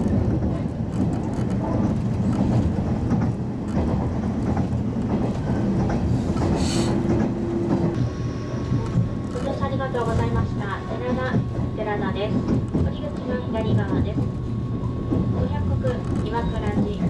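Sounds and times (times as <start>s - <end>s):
low rumble of wheels on rail: 0.0s - 17.0s.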